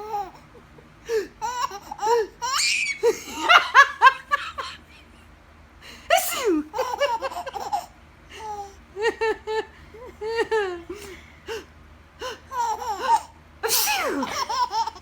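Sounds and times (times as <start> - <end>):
baby laughing: 0.0 - 5.2, 6.4 - 11.6, 12.2 - 13.4, 14.0 - 15.0.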